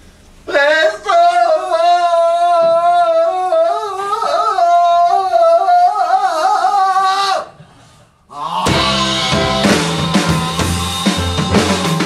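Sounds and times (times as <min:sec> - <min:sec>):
man singing unaccompanied: 0:00.5 - 0:07.5, 0:08.3 - 0:12.0.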